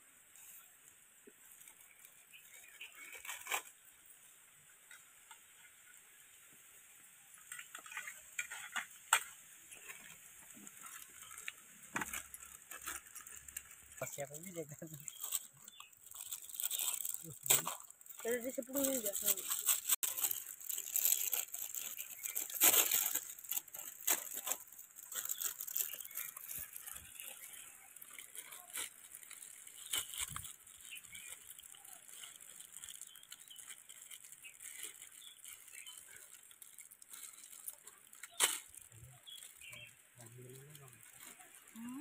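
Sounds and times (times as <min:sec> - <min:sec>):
plastic packets crinkling: 0:01.4 - 0:04.0, 0:07.4 - 0:42.0.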